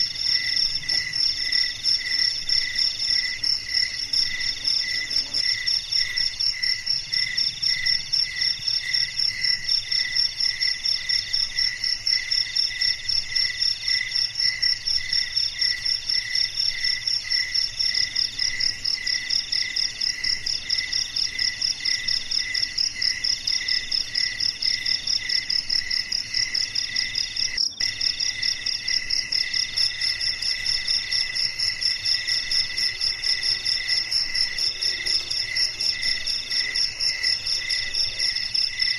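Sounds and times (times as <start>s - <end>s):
crickets chirping: 0.0s - 38.9s
rapid high insect trill: 0.0s - 38.9s.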